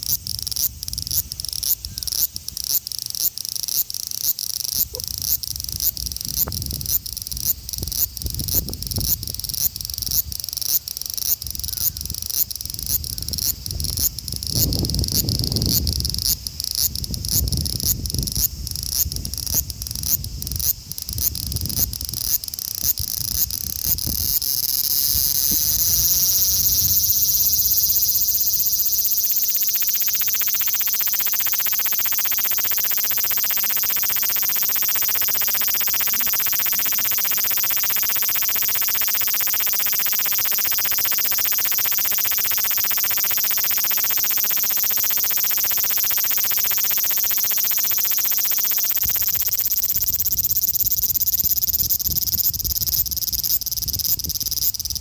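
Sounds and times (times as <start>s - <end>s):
cicada chirping and buzzing: 0.0s - 55.0s.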